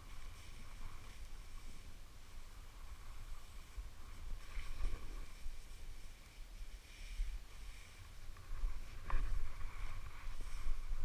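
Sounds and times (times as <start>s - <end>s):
skis scraping over snow: 0.0s - 11.0s
wind rumble on microphone: 0.0s - 11.0s.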